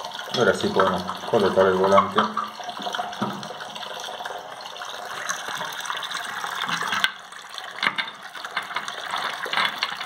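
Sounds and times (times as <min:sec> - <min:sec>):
water running from tap into sink: 0:00.0 - 0:10.0.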